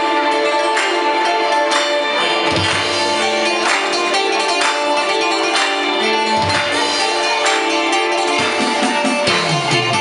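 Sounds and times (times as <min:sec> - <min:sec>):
audience clapping along: 0:00.0 - 0:09.9.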